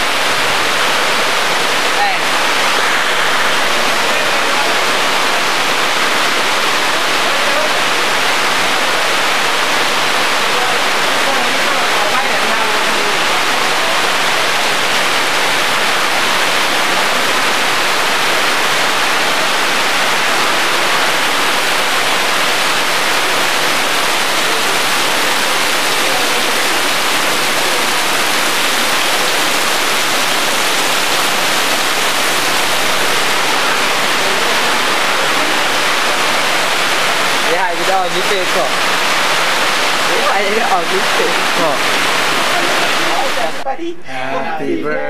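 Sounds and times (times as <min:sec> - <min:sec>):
heavy rain splashing on concrete: 0:00.0 - 0:43.6.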